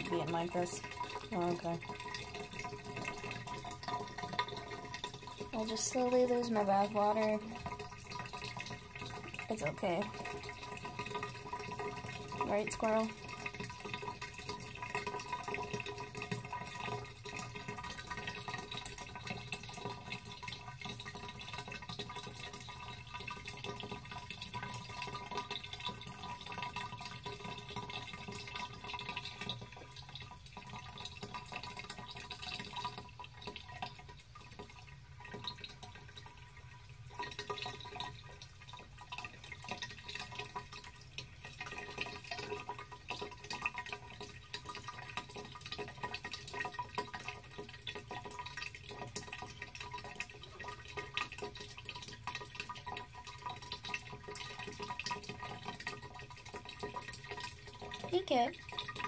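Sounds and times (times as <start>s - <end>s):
bathwater draining: 0.0s - 59.0s.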